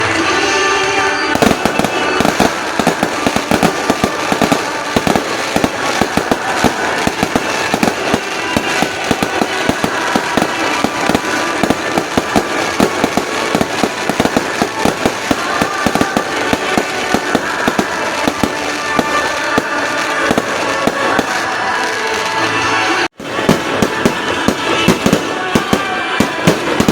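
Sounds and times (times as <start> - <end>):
fireworks bangs and crackles: 0.0 - 26.9
music playing: 0.0 - 26.9.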